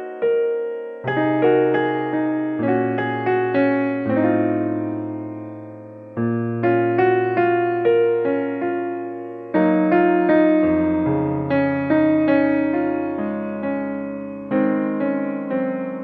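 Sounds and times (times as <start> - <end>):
calm piano chords and melody: 0.0 - 16.0.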